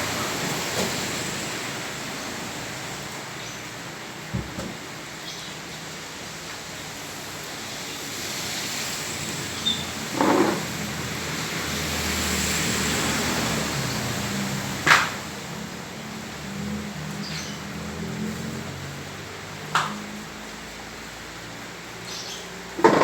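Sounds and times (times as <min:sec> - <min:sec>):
heavy rain hissing: 0:00.0 - 0:22.8.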